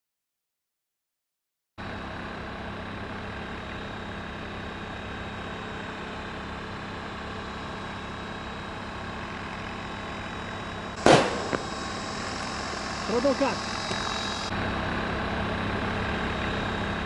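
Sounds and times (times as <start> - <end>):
steady mechanical hum: 1.8 - 17.0.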